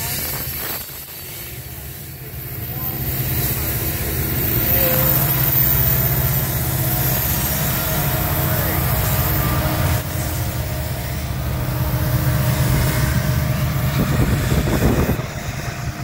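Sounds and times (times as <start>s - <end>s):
diesel locomotive engines rumbling: 0.0s - 16.0s
hopper cars rolling on rails: 0.0s - 16.0s.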